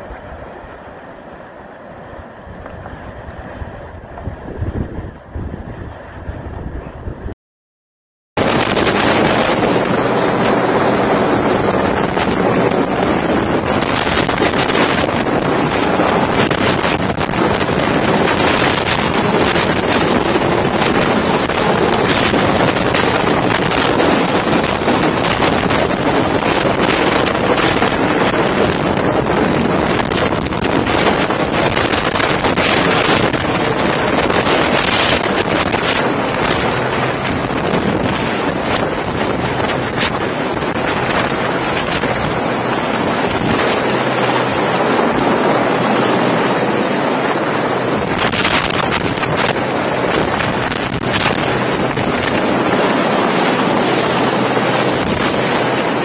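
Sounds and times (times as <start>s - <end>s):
wind buffeting microphone: 0.0s - 7.4s, 8.4s - 56.0s.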